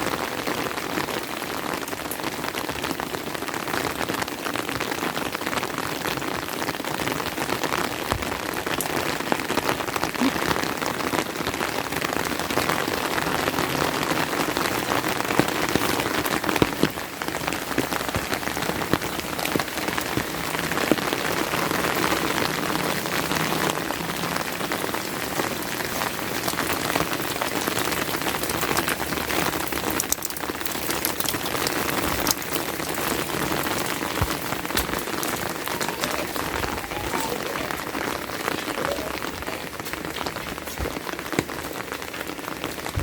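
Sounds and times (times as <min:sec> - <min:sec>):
raindrop hits ticking: 0:00.0 - 0:43.0
steady rain: 0:00.0 - 0:43.0.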